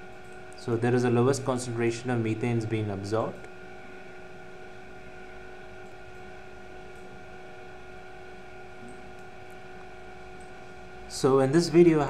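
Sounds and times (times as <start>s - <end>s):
electrical hum: 0.0s - 12.0s
faint constant tones: 0.0s - 12.0s.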